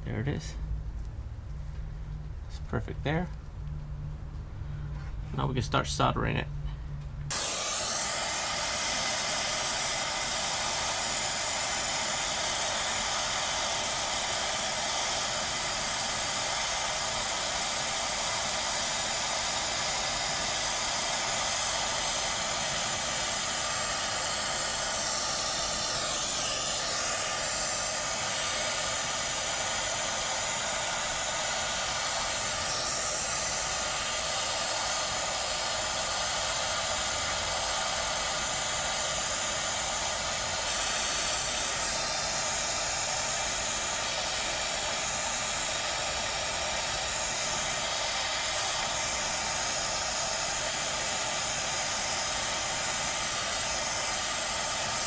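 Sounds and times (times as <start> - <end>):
gas torch flame hissing: 7.3 - 55.0.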